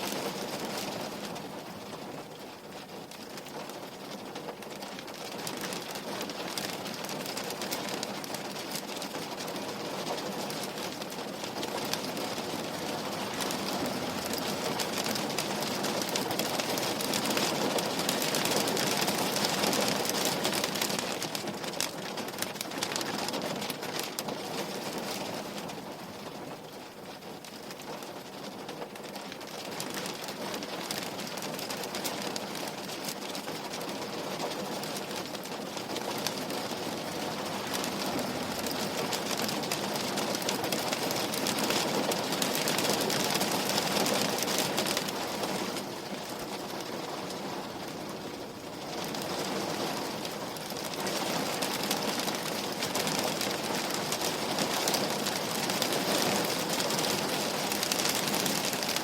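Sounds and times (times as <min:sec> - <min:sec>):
rain on a window pane: 0:00.0 - 0:59.0.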